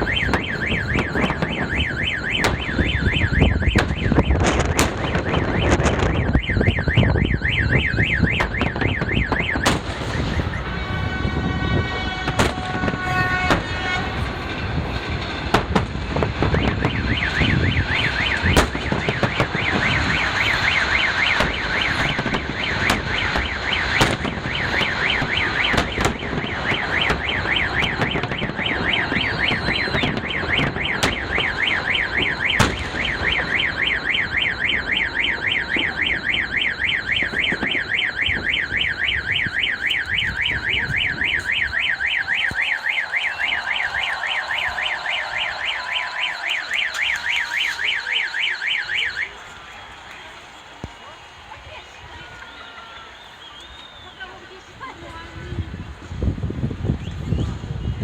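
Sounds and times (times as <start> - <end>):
car alarm warbling: 0.0 - 49.4
fireworks banging: 0.0 - 51.7.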